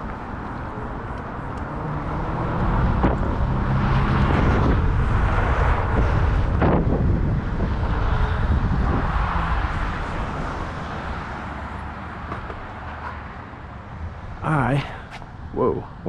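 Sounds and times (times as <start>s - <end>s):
rolling road noise: 0.0s - 16.0s
wind on microphone: 0.0s - 16.0s.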